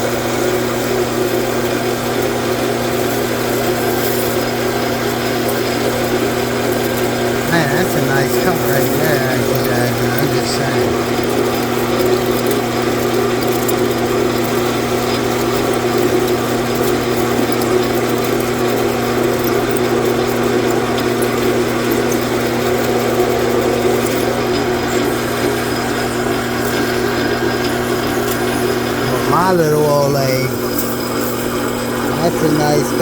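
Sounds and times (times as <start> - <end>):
lathe motor hum: 0.6 - 33.0.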